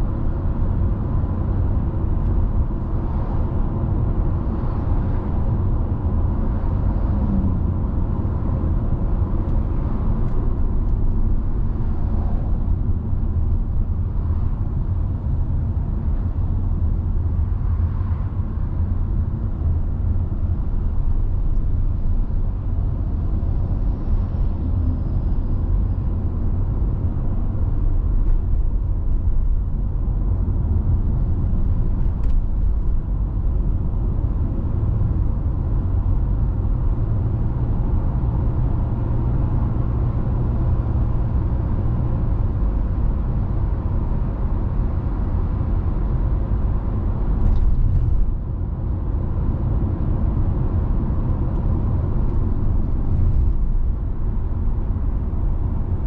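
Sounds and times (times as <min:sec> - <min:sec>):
car driving on road: 0:00.0 - 0:56.0.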